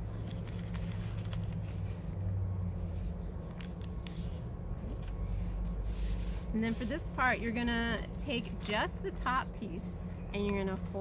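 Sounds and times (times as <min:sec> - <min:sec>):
newspaper rustling: 0:00.0 - 0:08.9.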